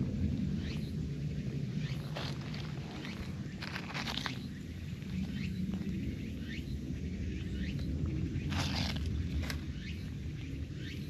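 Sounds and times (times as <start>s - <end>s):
low background rumble: 0.0s - 11.0s
small bird chirping: 1.8s - 11.0s.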